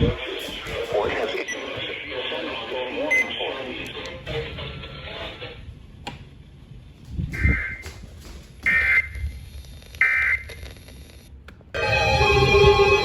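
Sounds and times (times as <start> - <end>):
low radio rumble: 0.0 - 11.5.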